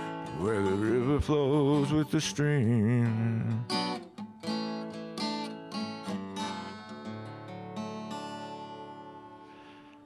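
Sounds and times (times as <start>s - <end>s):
acoustic guitar playing: 0.0s - 10.0s.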